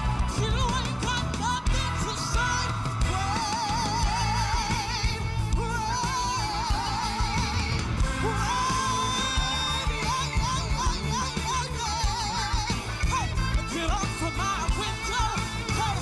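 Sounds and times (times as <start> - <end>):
live band playing: 0.0 - 16.0
woman singing with vibrato: 0.0 - 16.0.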